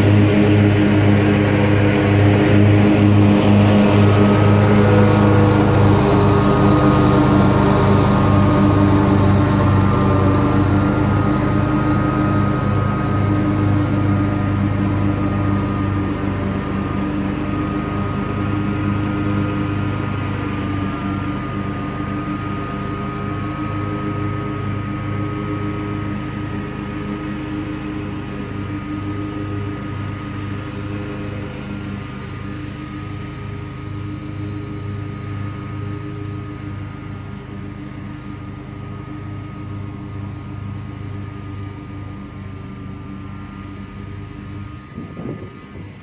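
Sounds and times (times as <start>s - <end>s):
mower engine drone: 0.0s - 46.0s.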